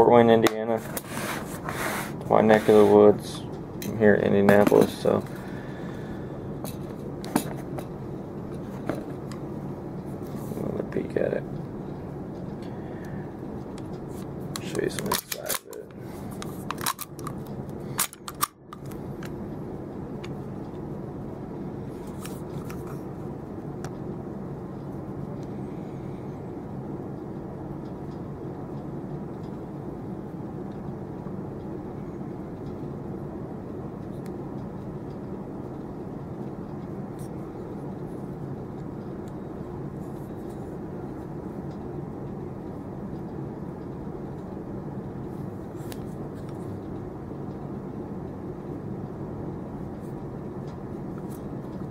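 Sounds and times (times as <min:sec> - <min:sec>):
steady low drone: 0:00.0 - 0:51.9.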